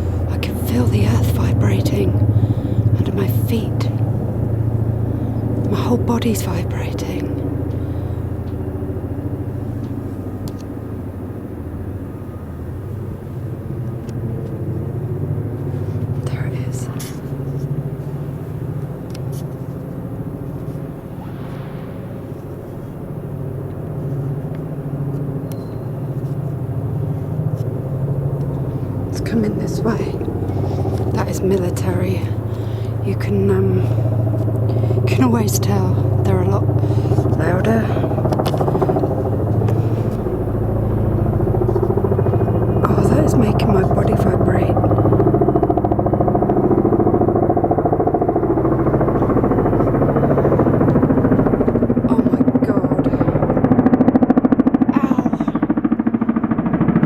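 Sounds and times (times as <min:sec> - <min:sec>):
deep engine drone: 0:00.0 - 0:57.0
helicopter rotor beating: 0:00.0 - 0:57.0.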